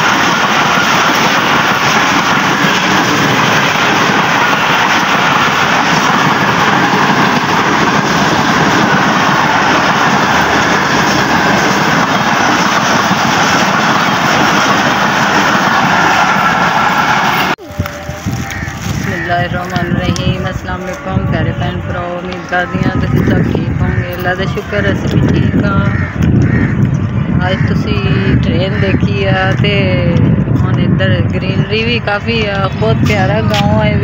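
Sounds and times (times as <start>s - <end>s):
train coaches passing: 0.0s - 34.0s.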